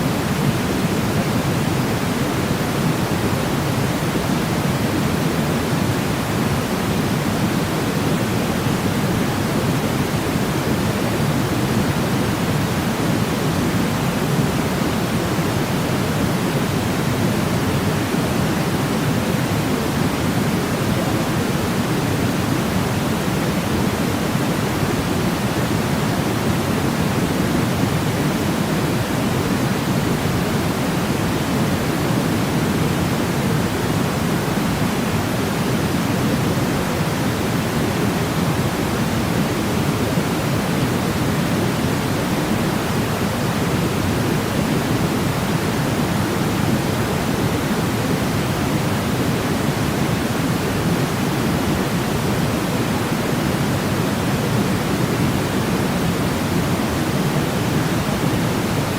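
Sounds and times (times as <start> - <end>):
steady pink noise hiss: 0.0 - 58.9.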